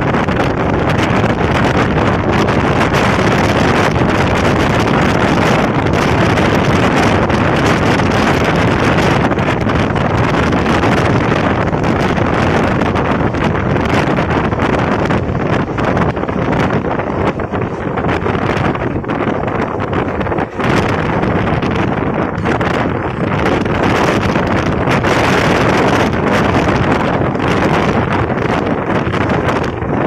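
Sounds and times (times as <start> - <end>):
train running on track: 0.0 - 30.0
wind on microphone: 0.0 - 30.0.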